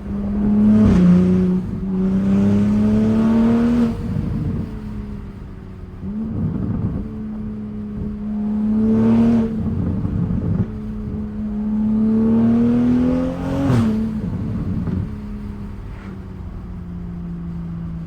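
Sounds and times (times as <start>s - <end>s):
turbocharged engine revving: 0.0s - 5.0s, 6.0s - 16.1s.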